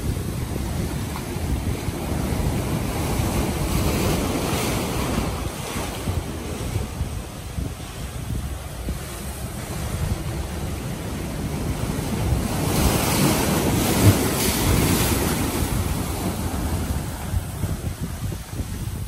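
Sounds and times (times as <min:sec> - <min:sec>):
surf crashing on rocks: 0:00.0 - 0:19.0
wind buffeting microphone: 0:00.0 - 0:19.0.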